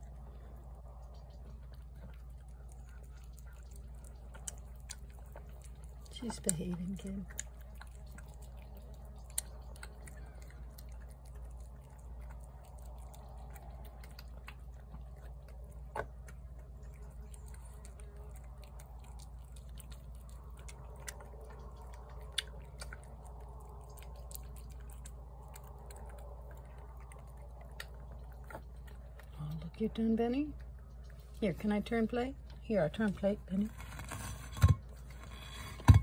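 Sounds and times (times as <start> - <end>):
cat chewing wet food: 0.0 - 36.0
low hum: 0.0 - 36.0.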